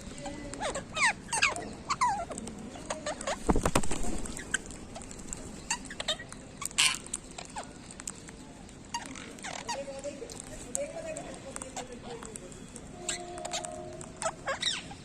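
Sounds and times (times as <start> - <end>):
clicks and scratches: 0.0 - 14.8
parrots chirping and chattering: 0.0 - 15.0.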